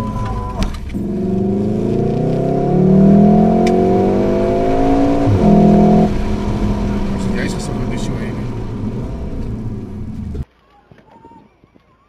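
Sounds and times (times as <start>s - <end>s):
car engine accelerating: 0.0s - 10.4s.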